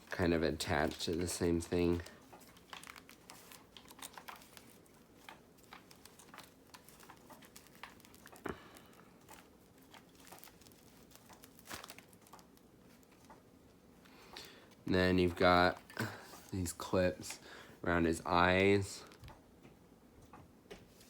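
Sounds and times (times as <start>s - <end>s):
faint crinkling and plastic clicks: 0.0s - 21.0s.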